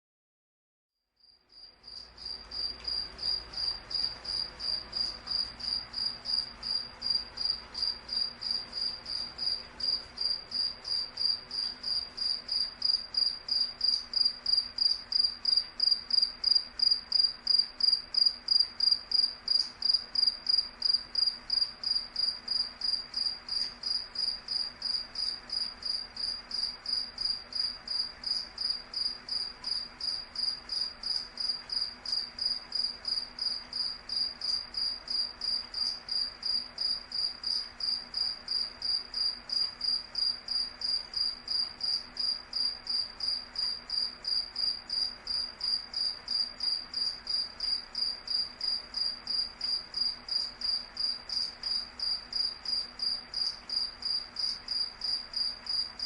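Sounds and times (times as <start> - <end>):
cricket chirping: 1.2 - 56.0.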